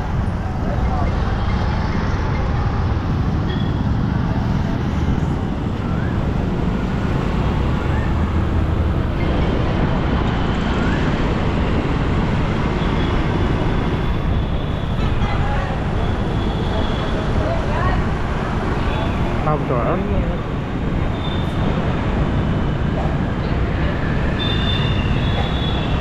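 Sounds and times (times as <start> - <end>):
city road traffic: 0.0 - 26.0
moving vehicle rumble: 0.0 - 26.0.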